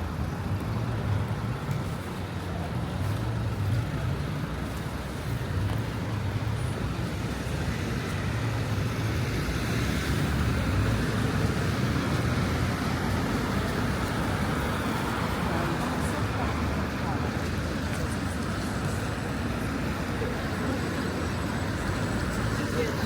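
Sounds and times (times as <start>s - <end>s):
city road traffic: 0.0s - 23.0s.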